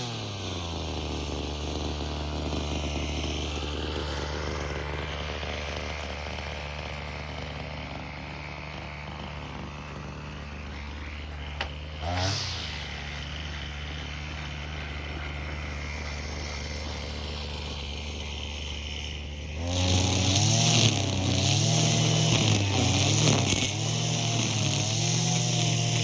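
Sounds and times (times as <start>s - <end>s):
brush cutter engine: 0.0s - 26.0s
trimmer line cutting weeds: 0.0s - 26.0s.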